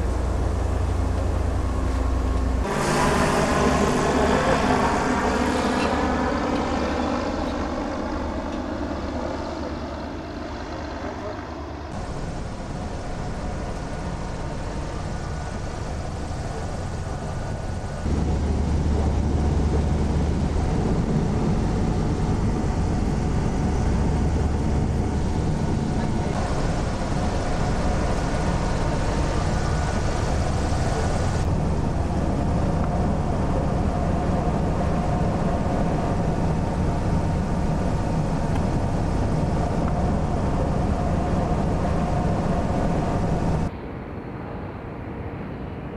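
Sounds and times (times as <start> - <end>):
airship engines and propellers droning: 0.0 - 45.9.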